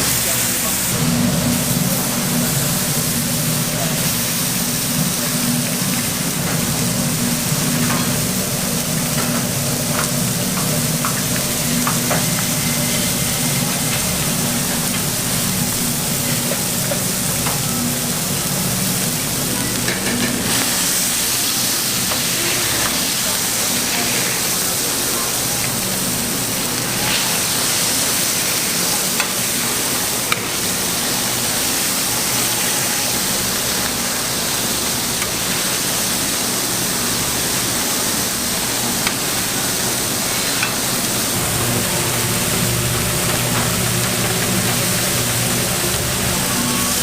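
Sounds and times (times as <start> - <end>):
food sizzling on a grill: 0.0 - 47.0.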